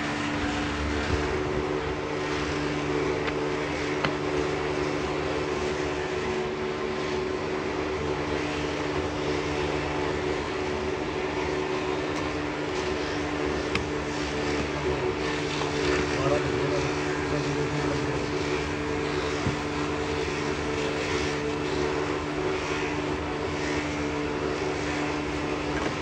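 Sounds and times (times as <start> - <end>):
even hiss: 0.0 - 26.0
machine hum: 0.0 - 26.0.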